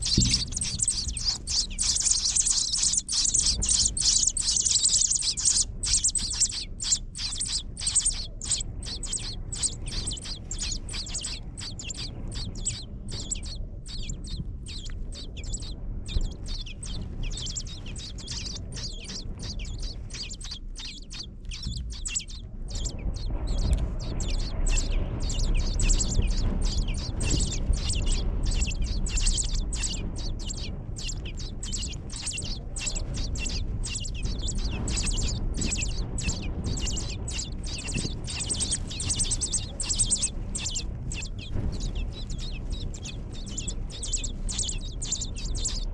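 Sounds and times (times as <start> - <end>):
low steady rumble: 0.0 - 45.9
nestling birds chirping: 0.0 - 45.9.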